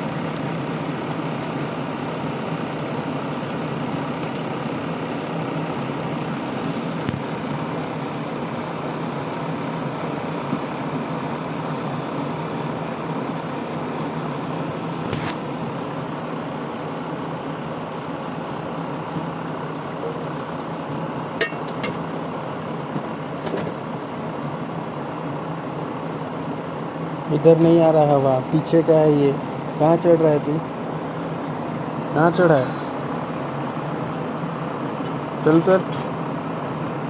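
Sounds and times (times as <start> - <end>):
air cooler fan running: 0.0 - 37.0.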